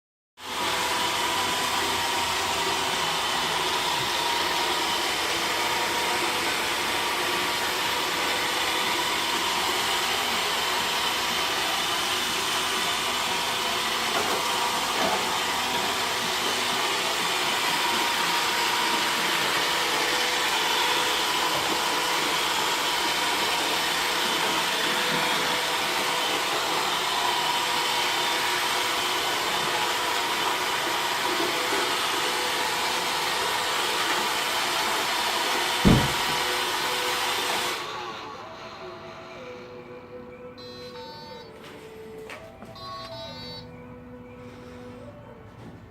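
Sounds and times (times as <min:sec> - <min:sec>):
robot vacuum humming: 0:00.4 - 0:38.6.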